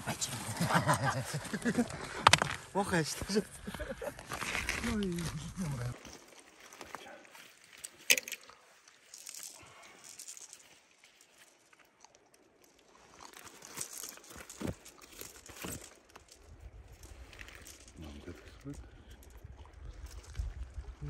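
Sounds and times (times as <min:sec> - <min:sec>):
faint rustling and handling: 0:01.2 - 0:20.4.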